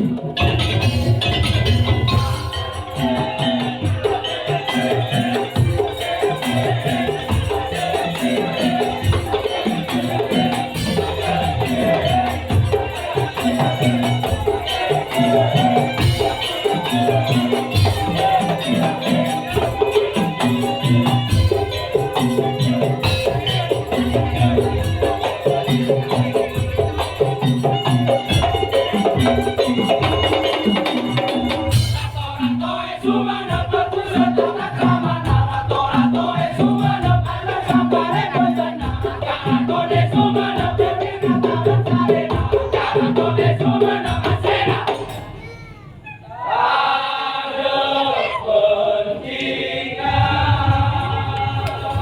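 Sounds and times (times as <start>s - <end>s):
high jingling percussion: 0.0s - 46.2s, 50.0s - 52.0s.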